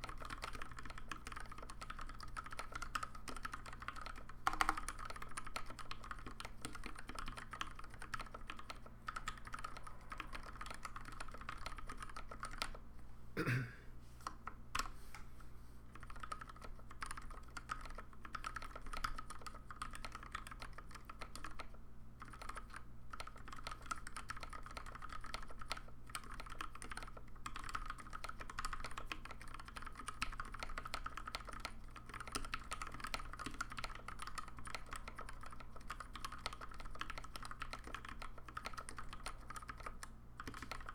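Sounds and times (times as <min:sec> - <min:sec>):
mechanical keyboard typing: 0:00.0 - 0:12.8, 0:15.9 - 0:40.9.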